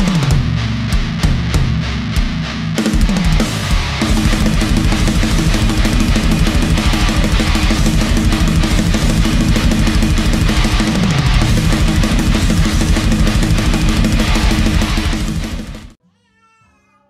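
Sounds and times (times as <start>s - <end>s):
electric guitar: 0.0s - 16.0s
fast drum kit: 0.0s - 16.0s.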